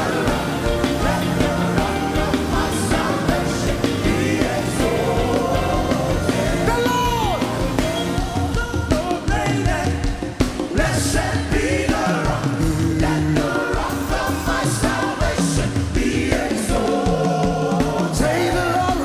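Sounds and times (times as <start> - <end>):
gospel band playing: 0.0 - 19.0
people singing: 0.0 - 19.0.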